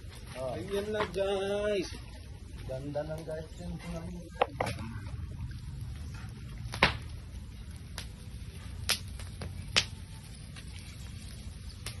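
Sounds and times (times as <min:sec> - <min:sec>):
wood fire crackling and popping: 0:00.0 - 0:12.0
low steady rumble: 0:01.5 - 0:12.0.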